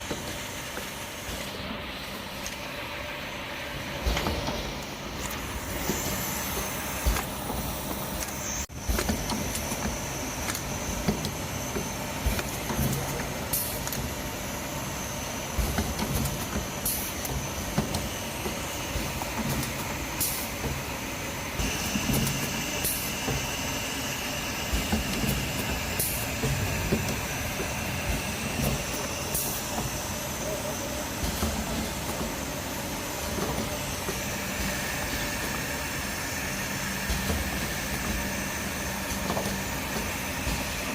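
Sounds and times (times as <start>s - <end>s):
filling machine running: 0.0s - 40.9s.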